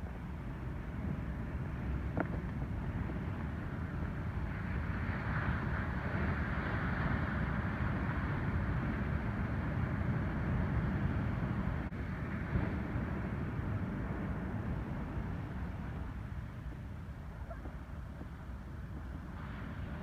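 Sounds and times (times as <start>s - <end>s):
wind rumbling on microphone: 0.0s - 20.0s
ocean waves breaking: 2.9s - 20.0s.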